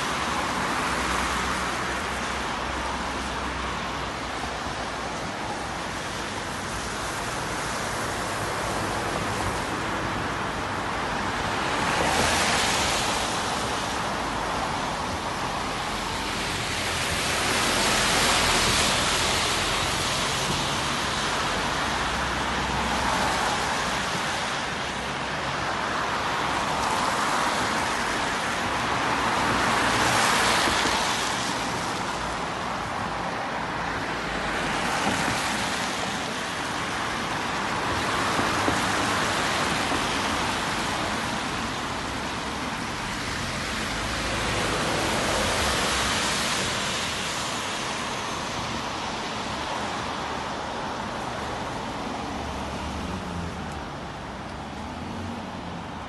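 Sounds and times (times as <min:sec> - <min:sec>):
tyres hissing on wet road: 0:00.0 - 0:56.0.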